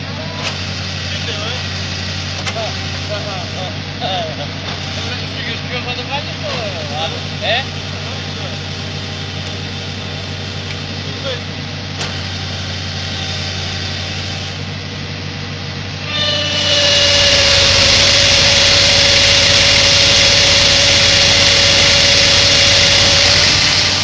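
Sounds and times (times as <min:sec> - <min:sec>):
engine running: 0:00.0 - 0:24.0
steady machine whine: 0:00.0 - 0:24.0.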